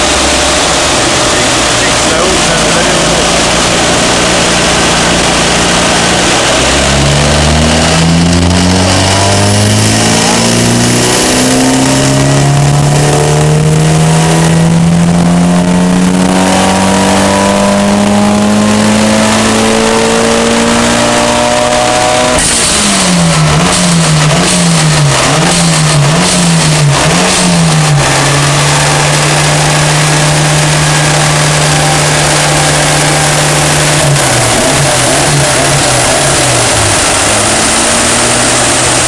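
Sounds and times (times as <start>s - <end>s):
car engine revving under load: 0.0s - 39.0s.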